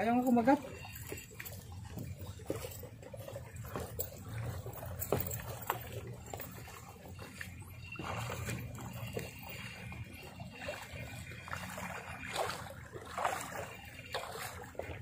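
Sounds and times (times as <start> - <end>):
seawater lapping at shore: 0.0 - 15.0.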